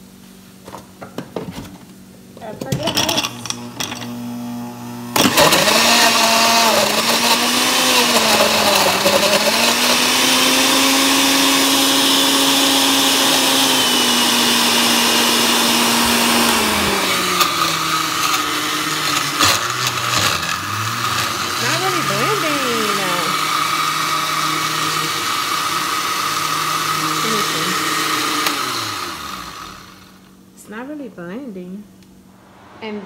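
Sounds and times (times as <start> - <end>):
blender crushing ice: 2.8 - 30.2.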